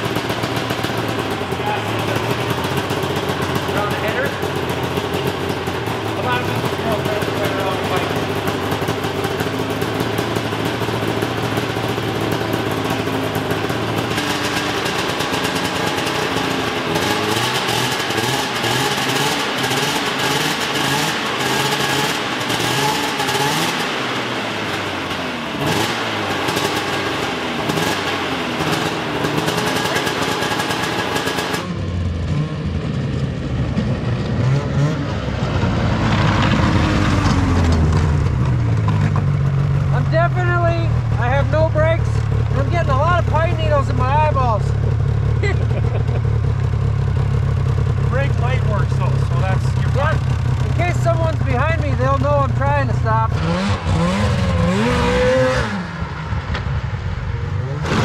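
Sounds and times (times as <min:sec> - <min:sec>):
snowmobile being ridden: 0:00.0 - 0:58.0
snowmobile engine revving: 0:00.0 - 0:58.0.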